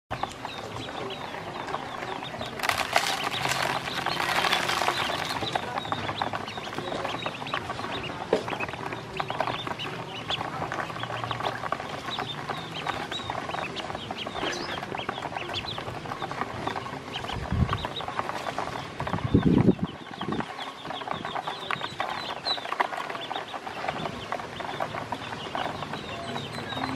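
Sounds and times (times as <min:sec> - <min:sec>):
ducklings peeping: 0:00.1 - 0:26.9.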